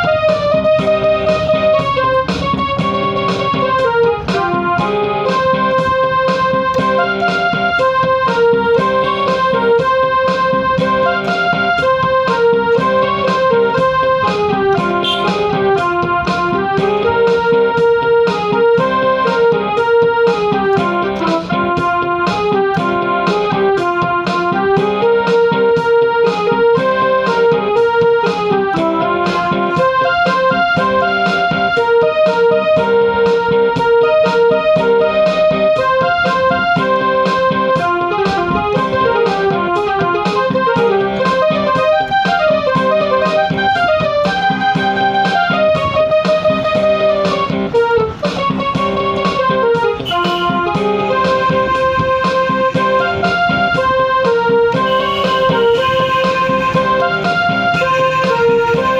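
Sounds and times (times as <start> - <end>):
held chords: 0.0 - 58.9
keyboard melody: 0.0 - 58.9
steady beat: 0.0 - 58.9.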